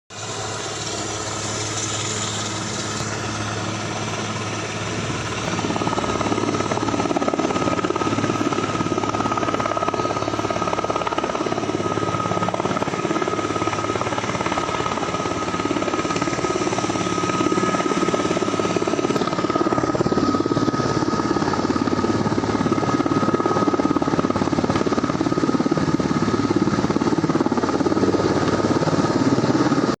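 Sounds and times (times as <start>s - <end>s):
aircraft engines whining: 0.1s - 30.0s.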